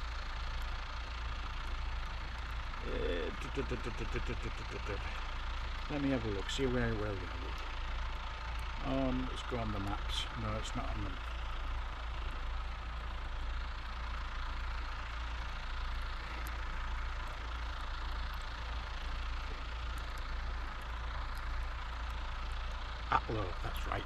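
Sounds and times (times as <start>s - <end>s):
distant tractor engines rumbling: 0.0s - 24.0s.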